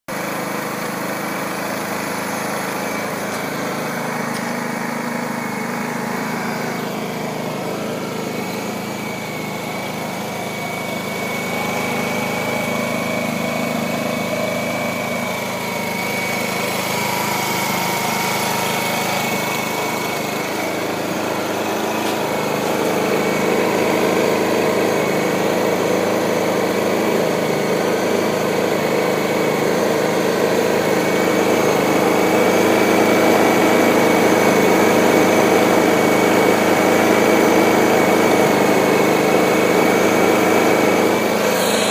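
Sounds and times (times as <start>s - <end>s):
generator engine running: 0.1s - 41.9s.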